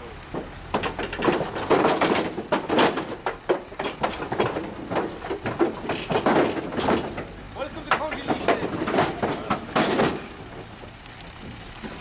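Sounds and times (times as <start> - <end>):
clattering knocks and bangs: 0.3 - 10.7.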